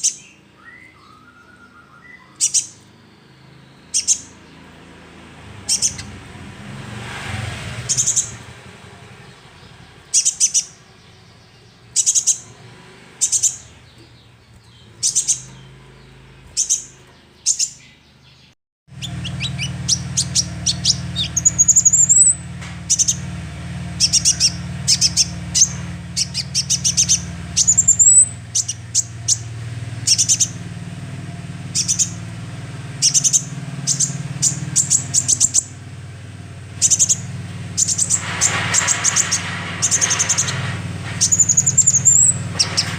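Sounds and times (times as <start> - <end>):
young bird chirping: 0.0 - 4.8, 5.6 - 6.2, 7.8 - 8.5, 9.2 - 12.6, 13.2 - 23.3, 24.0 - 30.6, 31.7 - 32.2, 32.9 - 35.8, 36.8 - 42.9.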